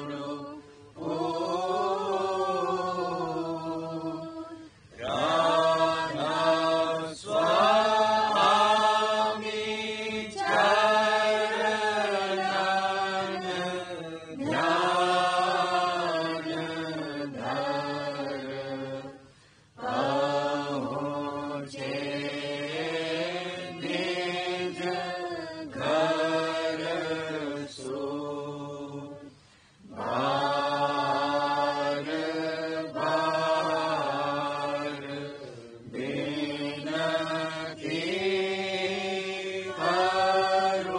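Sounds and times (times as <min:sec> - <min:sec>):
person chanting a hymn: 0:00.0 - 0:40.9.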